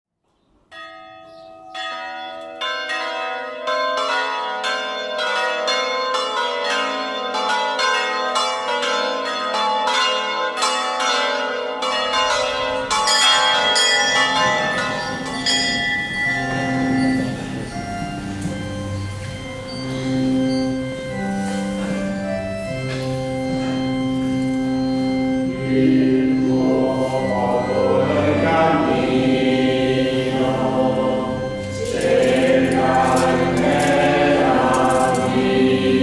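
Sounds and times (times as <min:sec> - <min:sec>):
church bells ringing: 0:00.7 - 0:36.0.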